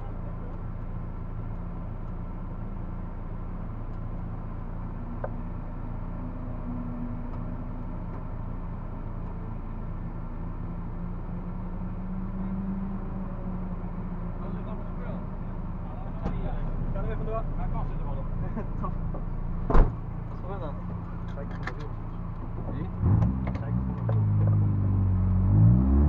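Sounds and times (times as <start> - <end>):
car engine running under load: 0.0 - 26.0.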